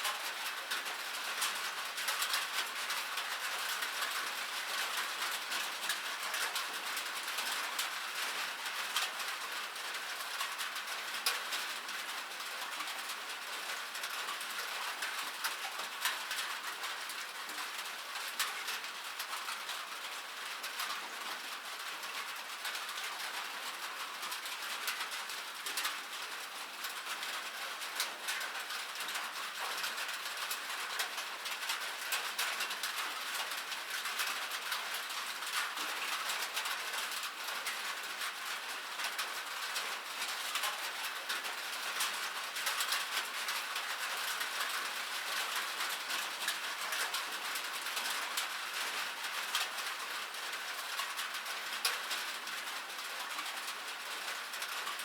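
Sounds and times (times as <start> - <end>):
rain on metal surface: 0.0 - 55.0.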